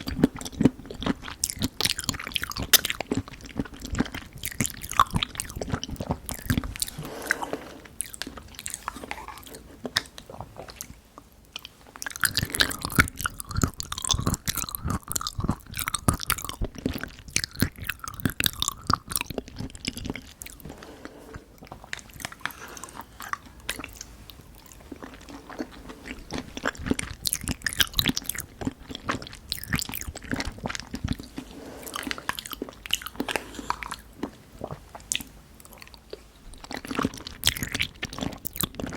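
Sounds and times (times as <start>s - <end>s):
person chewing pudding: 0.0s - 38.9s.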